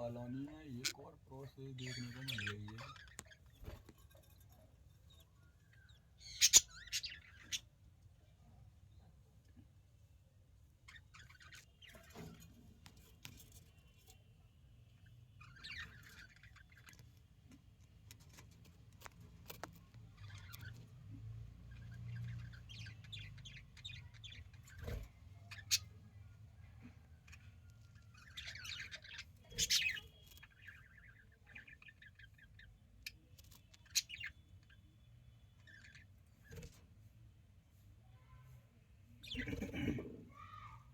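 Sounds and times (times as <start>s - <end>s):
budgies chirping and chattering: 0.0s - 7.8s, 10.8s - 13.6s, 14.9s - 36.8s, 39.1s - 40.8s.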